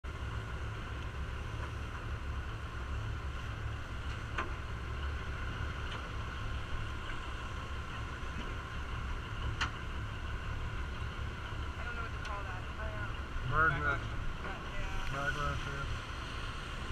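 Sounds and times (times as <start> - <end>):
boat engine rumble: 0.0 - 16.9
water washing along hull: 0.0 - 16.9.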